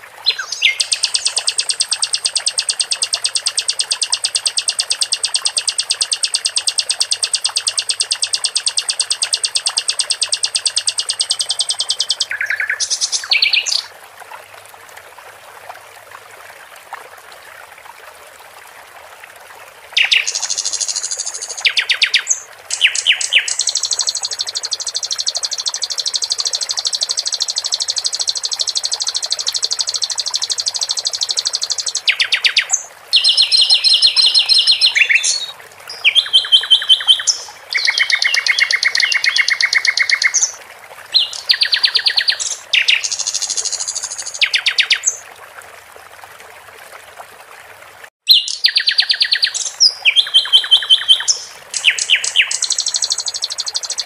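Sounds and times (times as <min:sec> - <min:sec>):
water trickling: 0:00.0 - 0:54.0
songbird trilling: 0:00.3 - 0:13.9, 0:20.0 - 0:40.6, 0:41.2 - 0:45.2, 0:48.3 - 0:54.0.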